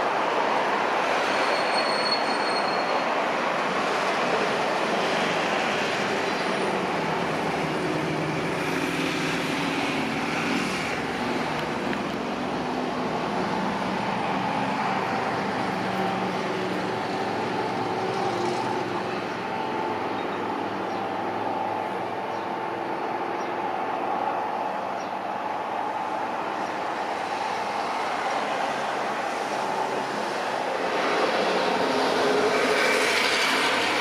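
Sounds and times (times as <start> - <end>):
jet engines running: 3.1 - 34.0.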